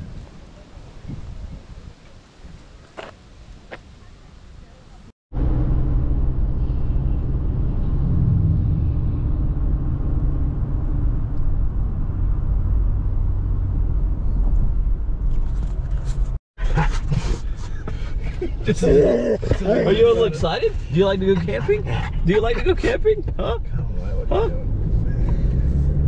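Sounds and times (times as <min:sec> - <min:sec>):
car road and engine rumble: 0:02.8 - 0:26.0.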